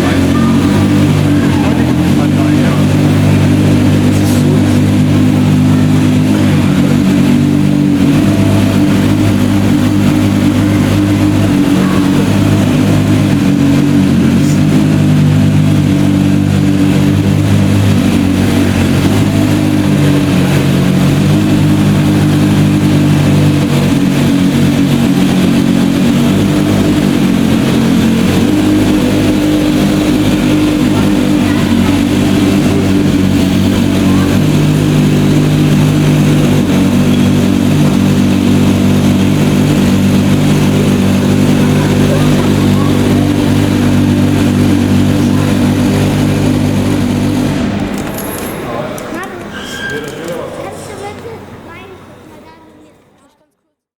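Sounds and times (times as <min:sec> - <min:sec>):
sports car engine running loudly: 0:00.0 - 0:52.0.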